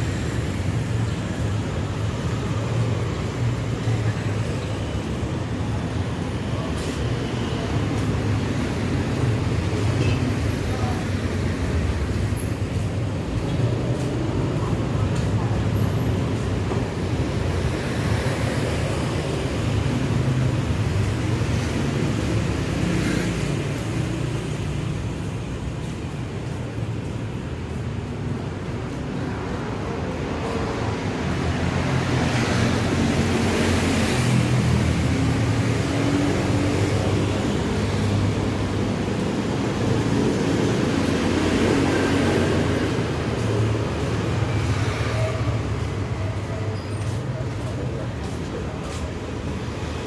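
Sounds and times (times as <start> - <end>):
road traffic passing: 0.0 - 50.0
vehicle engines humming: 0.0 - 50.0.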